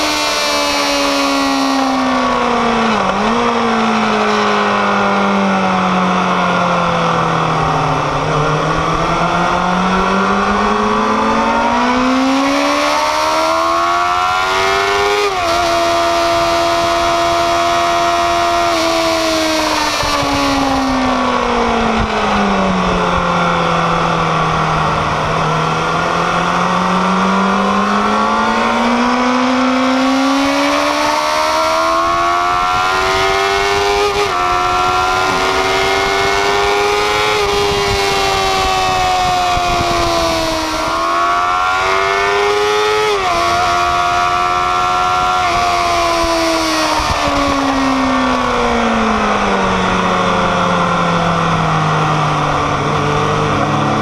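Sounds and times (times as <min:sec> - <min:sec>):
motorcycle engine at speed: 0:00.0 - 0:54.0
wind noise rushing: 0:07.4 - 0:54.0.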